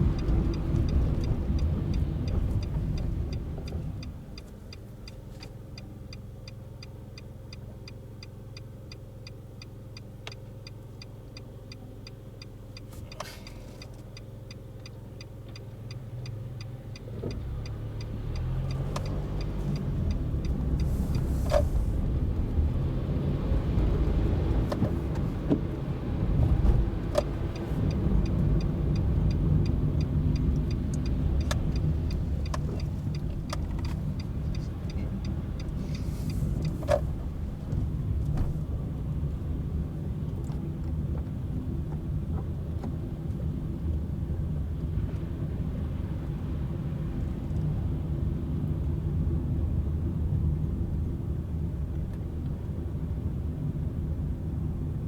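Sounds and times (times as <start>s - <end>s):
turn signal ticking: 0.0s - 54.8s
car engine and tyre noise: 0.0s - 55.0s.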